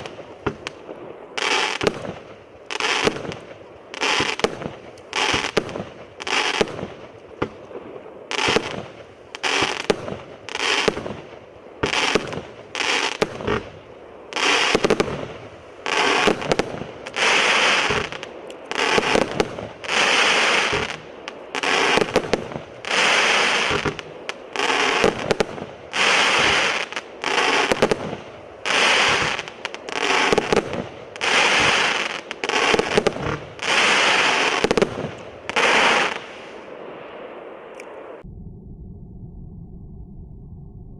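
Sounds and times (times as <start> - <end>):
firework shots crackling: 0.0 - 38.2.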